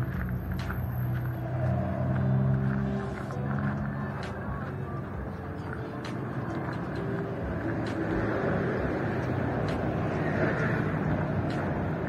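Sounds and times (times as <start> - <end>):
road traffic noise: 0.0 - 12.0
vehicle passing: 0.0 - 12.0.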